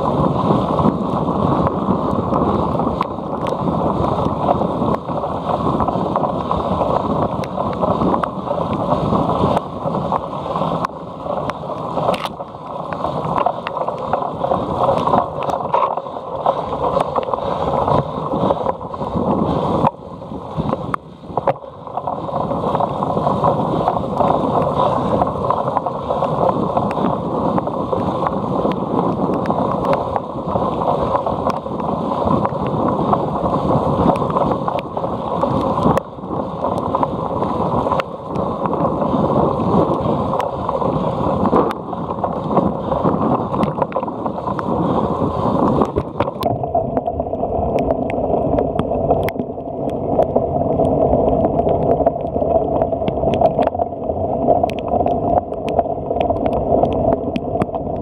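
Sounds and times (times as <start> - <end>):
bike rattling over rough ground: 0.0 - 46.5
wind rushing over microphone: 0.0 - 58.0.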